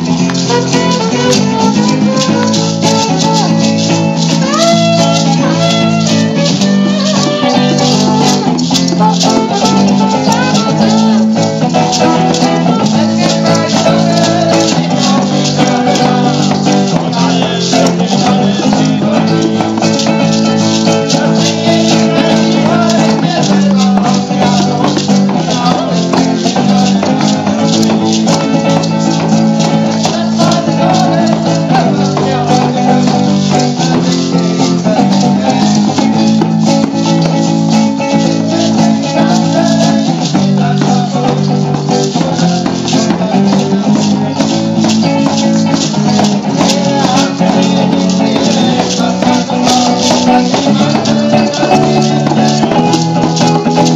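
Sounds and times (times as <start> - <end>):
hand shakers rattling: 0.0 - 53.9
strummed acoustic guitars: 0.0 - 53.9.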